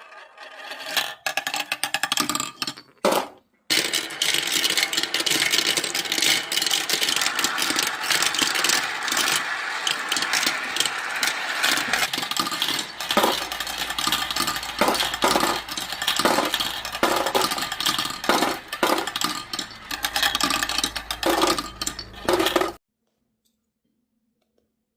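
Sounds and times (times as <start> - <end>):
marbles rolling on track: 0.0 - 22.8
marbles clicking and knocking: 0.8 - 22.8.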